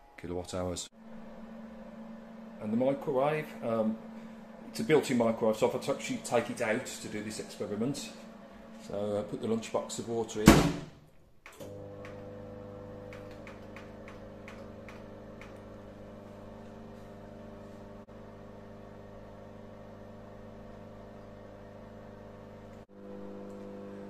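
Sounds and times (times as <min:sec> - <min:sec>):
microwave oven humming: 0:01.0 - 0:10.0, 0:11.5 - 0:24.0.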